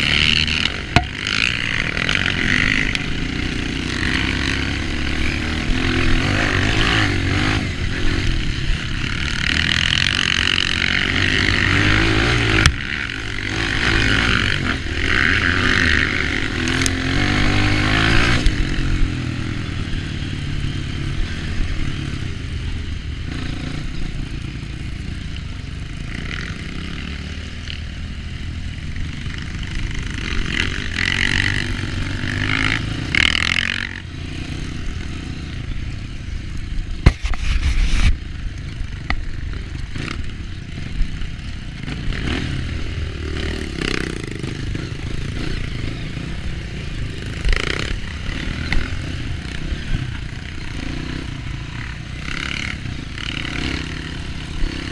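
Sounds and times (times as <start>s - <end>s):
dirt bike engine revving: 0.0s - 22.4s, 29.1s - 35.5s, 39.6s - 54.9s.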